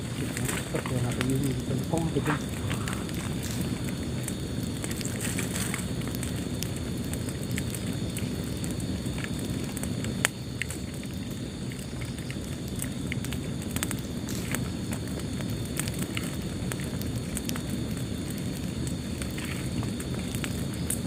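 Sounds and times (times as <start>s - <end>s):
fire crackling: 0.0s - 21.0s
low rumble of flames: 0.0s - 21.0s.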